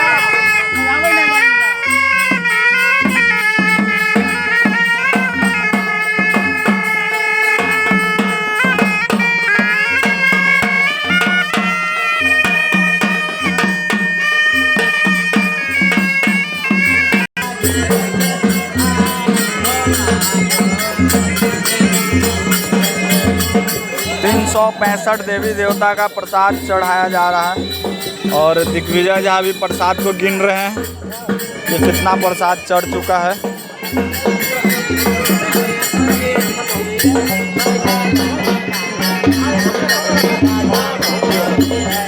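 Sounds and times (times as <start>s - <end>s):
reedy wind instrument melody: 0.0s - 42.0s
steady drumming: 0.0s - 42.0s.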